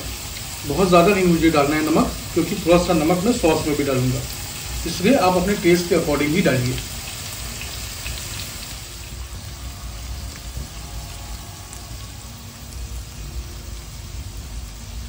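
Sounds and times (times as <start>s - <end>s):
chicken and peppers sizzling in oil: 0.0s - 15.0s.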